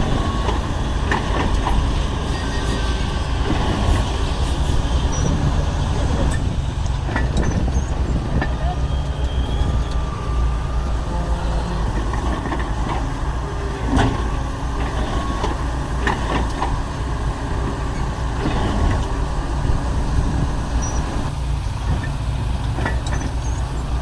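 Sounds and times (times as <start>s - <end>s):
heavy machinery diesel engines: 0.0s - 24.0s.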